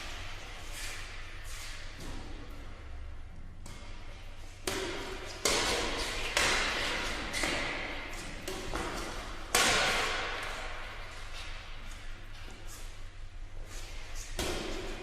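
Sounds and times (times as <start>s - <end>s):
racket hitting shuttlecock in hall: 0.0s - 15.0s.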